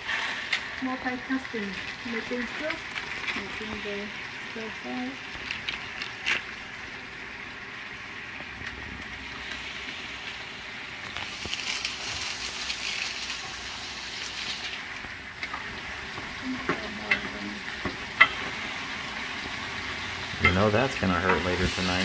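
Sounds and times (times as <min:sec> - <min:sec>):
stir-fry sizzling in a pan: 0:00.0 - 0:22.0.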